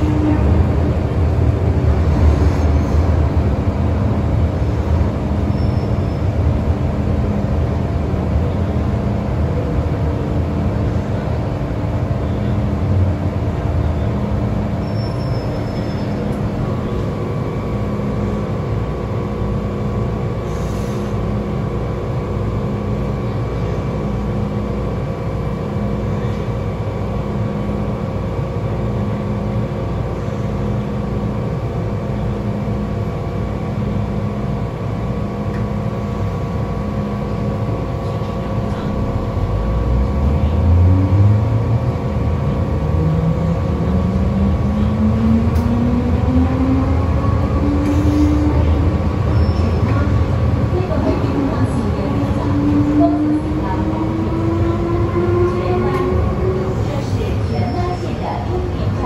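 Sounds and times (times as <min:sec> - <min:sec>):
metro car interior rumble: 0:00.0 - 0:59.0.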